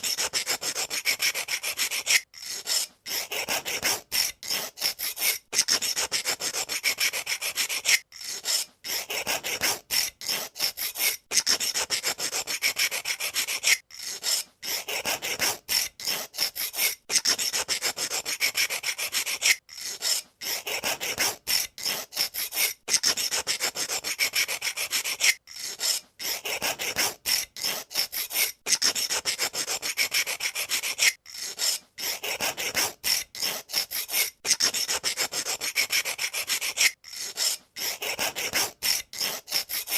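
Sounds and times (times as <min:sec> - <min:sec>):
pencil sharpener shaving pencil: 0:00.0 - 0:39.9.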